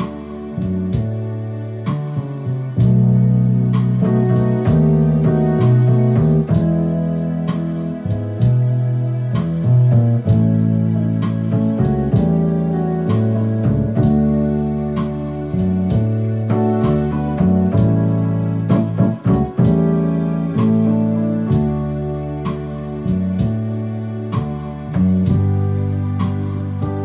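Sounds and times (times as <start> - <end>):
electronic keyboard playing hymn: 0.0 - 27.0.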